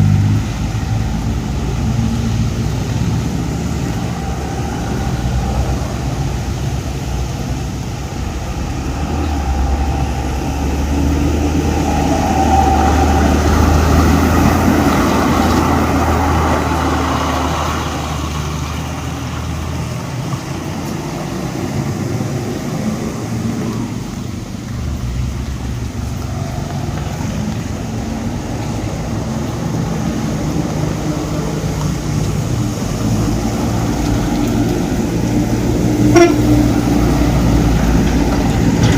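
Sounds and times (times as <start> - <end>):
vehicles passing on wet road: 0.0 - 38.9.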